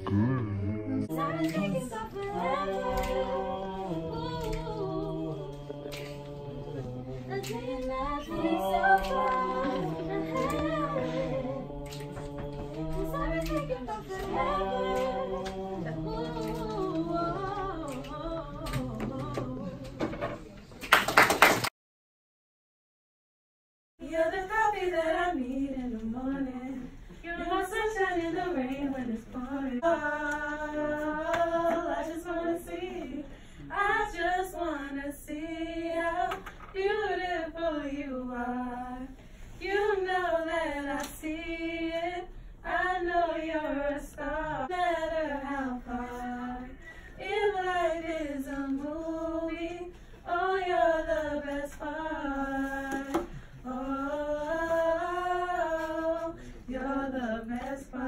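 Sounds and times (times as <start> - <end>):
girls singing a cappella: 0.0 - 20.4, 24.0 - 58.0.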